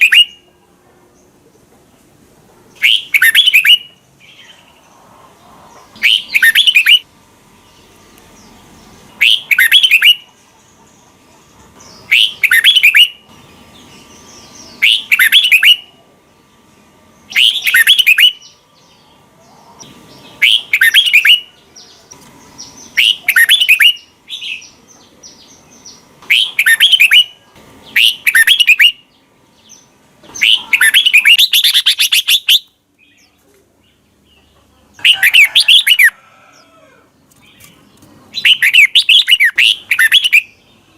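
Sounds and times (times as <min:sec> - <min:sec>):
bulbul singing warbling phrases: 0:00.0 - 0:01.4, 0:02.7 - 0:04.8, 0:06.0 - 0:10.9, 0:11.9 - 0:16.5, 0:17.1 - 0:36.1, 0:38.3 - 0:40.9.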